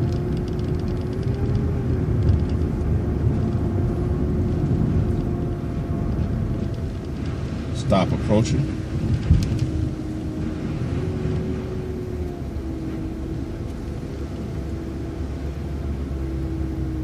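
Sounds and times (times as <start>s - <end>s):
bus engine rumbling: 0.0s - 17.0s
drivetrain whine: 0.0s - 17.0s.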